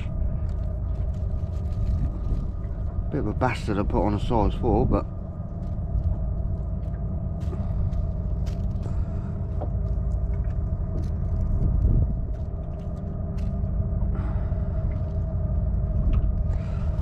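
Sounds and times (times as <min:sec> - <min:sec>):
faint steady hum: 0:00.0 - 0:17.0
low rumble: 0:00.0 - 0:17.0.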